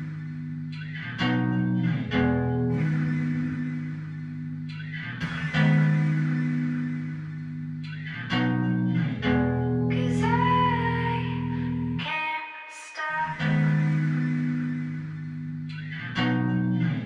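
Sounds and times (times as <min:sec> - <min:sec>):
pop song with guitar and bass: 0:00.0 - 0:17.0.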